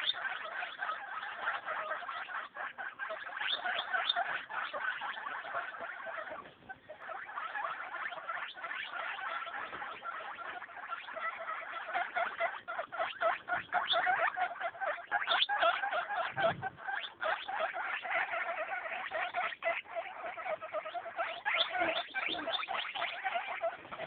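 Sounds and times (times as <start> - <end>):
baby guinea pigs squeaking: 0.0 - 24.0.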